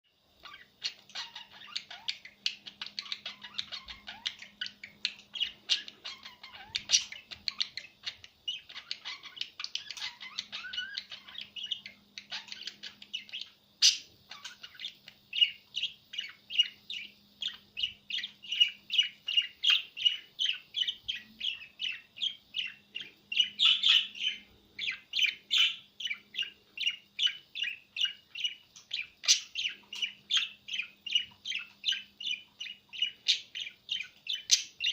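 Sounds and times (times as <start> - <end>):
pet bird chirping: 0.3 - 34.9.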